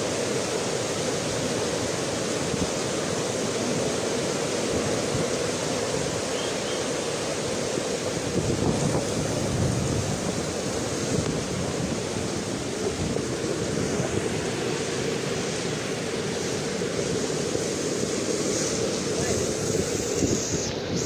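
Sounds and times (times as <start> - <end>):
flooded river roaring: 0.0 - 21.0.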